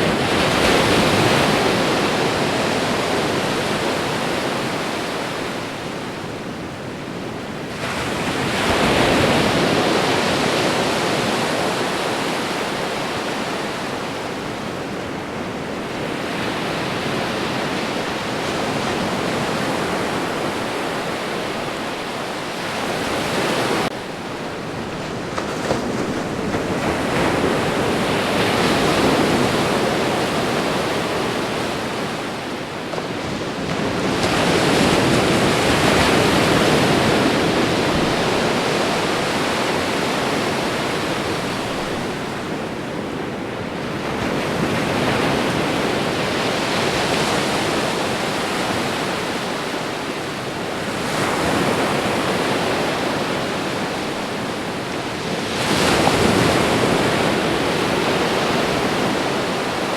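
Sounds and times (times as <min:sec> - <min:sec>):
ocean surf waves breaking: 0:00.0 - 0:59.9.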